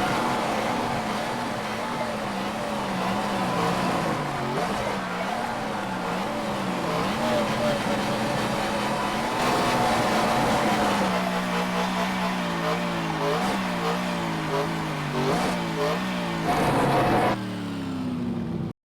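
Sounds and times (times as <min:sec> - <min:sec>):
car engine running: 0:00.0 - 0:18.7.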